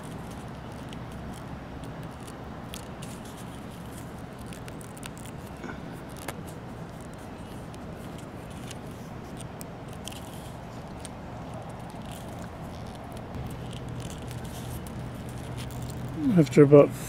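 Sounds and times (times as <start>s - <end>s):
lace rubbing on pipe: 0.0s - 17.0s
steady low hum: 0.0s - 17.0s.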